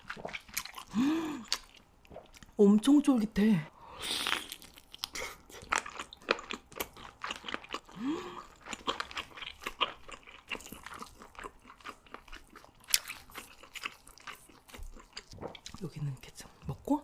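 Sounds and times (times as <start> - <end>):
wet mouth chewing: 0.0 - 2.6, 4.1 - 16.7.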